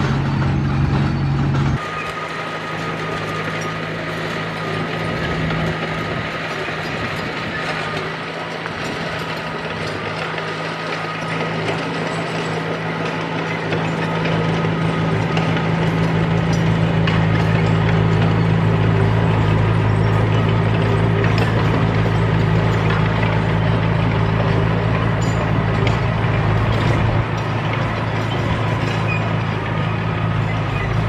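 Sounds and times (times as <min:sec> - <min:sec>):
bulldozer diesel engine running: 0:00.0 - 0:31.0
steel tracks clanking: 0:00.0 - 0:31.0.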